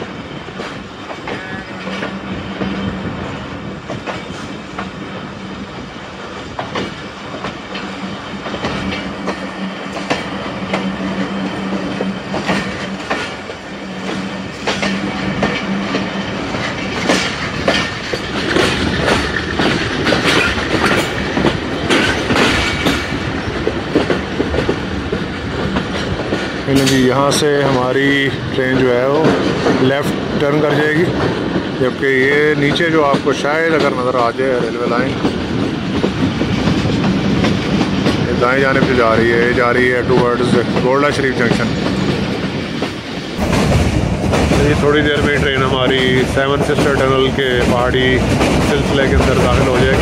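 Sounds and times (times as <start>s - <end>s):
train wheels clattering: 0.0s - 50.0s.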